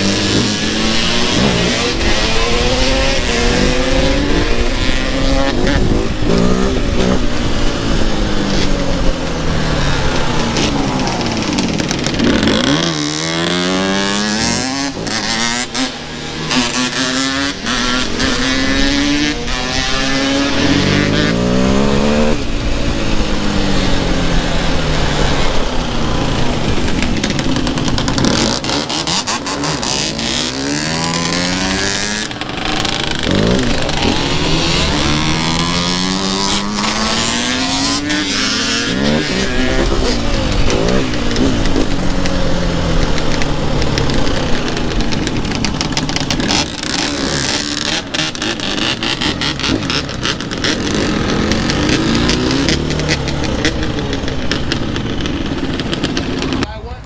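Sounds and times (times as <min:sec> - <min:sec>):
dirt bike and atv engines accelerating: 0:00.0 - 0:57.0.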